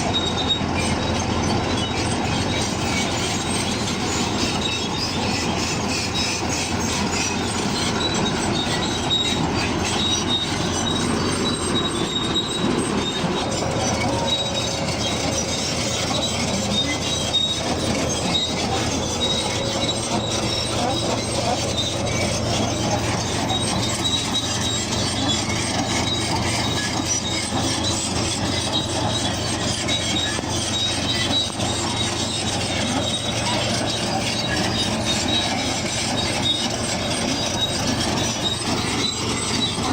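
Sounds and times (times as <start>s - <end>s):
bulldozer engine running: 0.0s - 39.9s
crawler tracks squealing and clanking: 0.0s - 39.9s.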